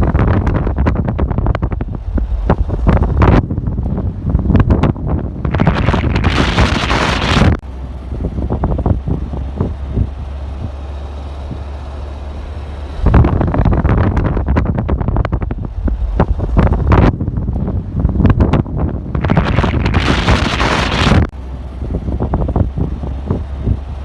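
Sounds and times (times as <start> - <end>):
wind buffeting microphone: 0.0 - 12.2, 12.8 - 24.0.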